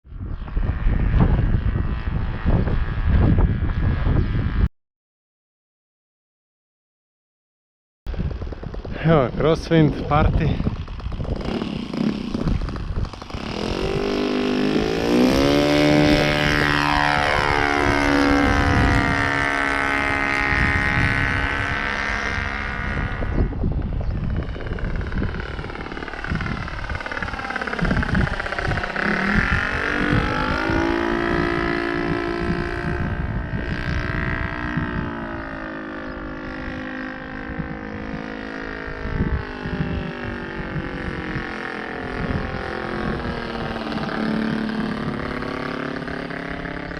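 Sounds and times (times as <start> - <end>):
wind rumbling on microphone: 0.0 - 4.7, 8.1 - 46.9
model plane engine at high power: 0.2 - 4.6, 8.1 - 46.9.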